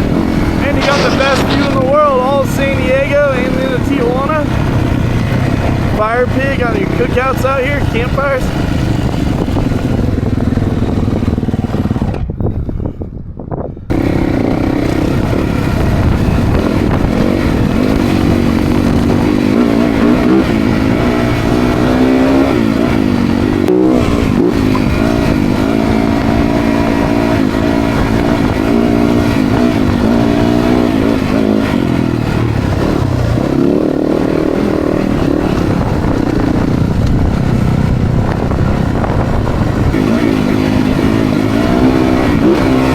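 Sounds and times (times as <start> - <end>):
dirt bike engines revving: 0.0 - 12.1, 13.9 - 42.9.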